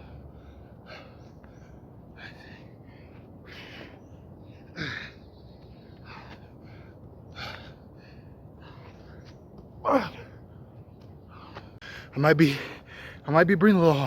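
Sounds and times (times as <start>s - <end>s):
man breathing hard and gasping: 0.0s - 10.6s, 11.2s - 13.2s.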